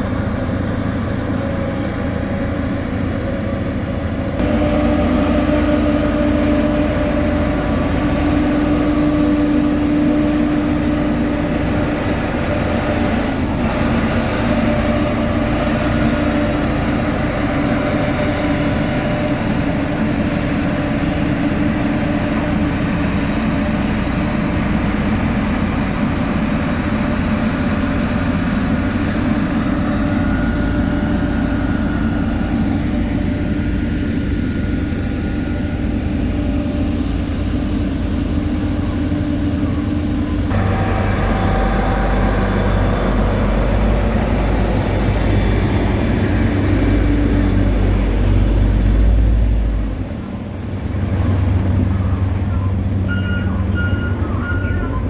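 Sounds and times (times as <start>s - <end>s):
diesel road machinery droning: 0.0s - 55.0s.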